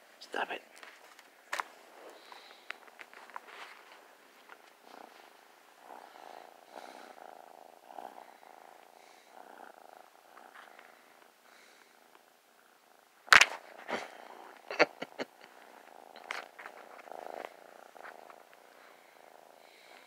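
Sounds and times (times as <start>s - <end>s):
kitten purring: 1.3s - 20.0s.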